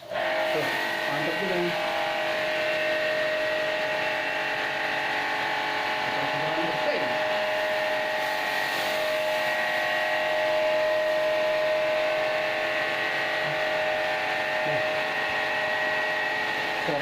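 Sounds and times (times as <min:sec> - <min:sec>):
pressure washer motor whine: 0:00.0 - 0:17.0
water jet spraying: 0:00.0 - 0:17.0.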